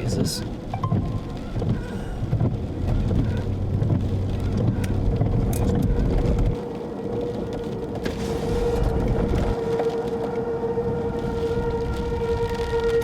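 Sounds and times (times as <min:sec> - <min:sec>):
car road and engine rumble: 0:00.0 - 0:13.0
tornado warning siren: 0:00.3 - 0:13.0.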